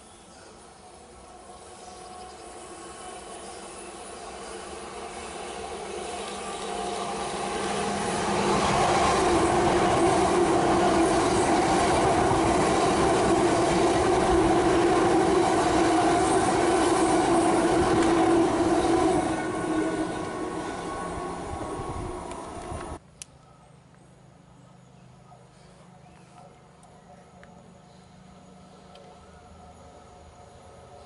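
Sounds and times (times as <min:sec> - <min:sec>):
passenger train passing: 0:00.0 - 0:23.0, 0:27.4 - 0:31.0.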